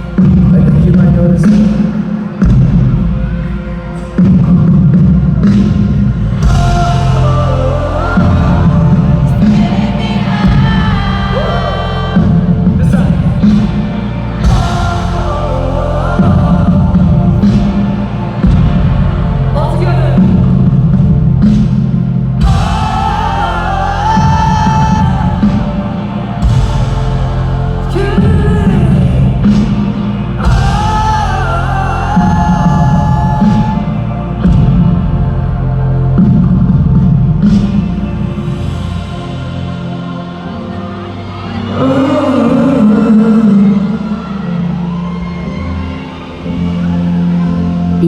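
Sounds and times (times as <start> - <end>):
heavy bass and drums: 0.0 - 48.0
live band music: 0.0 - 48.0
sung melody: 0.0 - 48.0.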